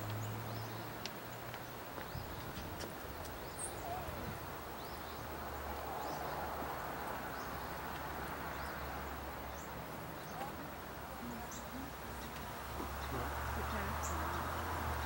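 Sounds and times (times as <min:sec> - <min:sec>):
bird chirping: 0:00.0 - 0:06.5, 0:07.2 - 0:15.0
background hiss: 0:00.0 - 0:15.0.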